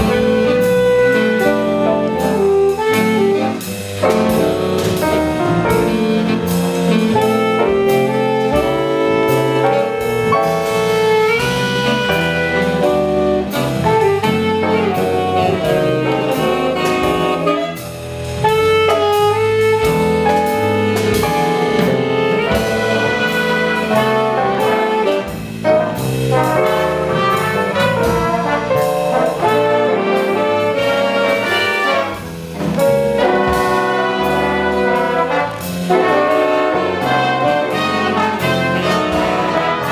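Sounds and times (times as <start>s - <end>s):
jazz big band playing: 0.0s - 39.9s.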